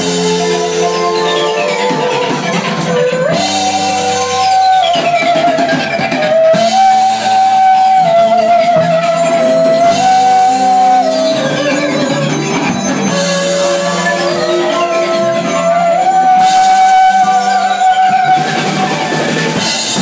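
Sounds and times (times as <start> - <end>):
live rock band playing: 0.0 - 20.0
sustained lead melody: 0.0 - 20.0.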